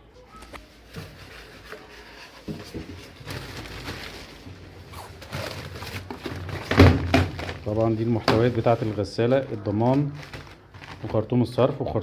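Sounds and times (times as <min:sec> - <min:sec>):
items being moved and rubbed: 0:00.1 - 0:12.0.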